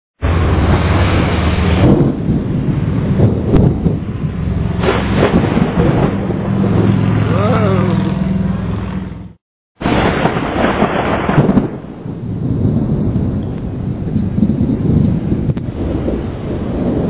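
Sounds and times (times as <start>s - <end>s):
rain or wind hiss: 0.2s - 7.2s, 9.8s - 17.0s
thunder rumbling: 0.2s - 7.3s, 9.8s - 17.0s.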